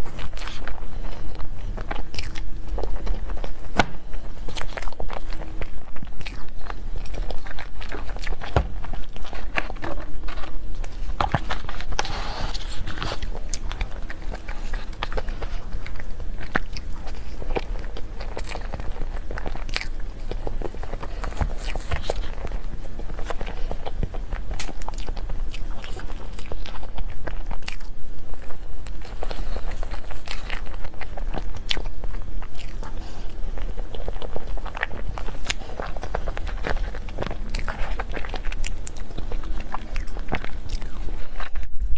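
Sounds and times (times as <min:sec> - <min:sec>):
food crunches: 0:00.0 - 0:41.9
person chewing with mouth clicks: 0:00.0 - 0:41.9
soft rustling: 0:00.0 - 0:41.9
steady low hum: 0:00.0 - 0:41.9.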